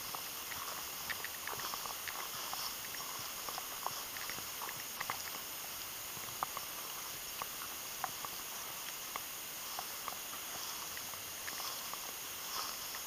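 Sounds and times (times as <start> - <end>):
footsteps on dry stubble: 0.0 - 13.0
steady hiss: 0.0 - 13.0.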